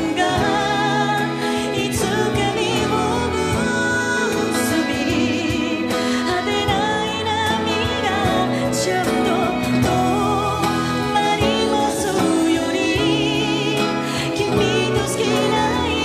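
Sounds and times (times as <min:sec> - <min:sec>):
grand piano: 0:00.0 - 0:16.0
woman singing a slow ballad: 0:00.0 - 0:16.0.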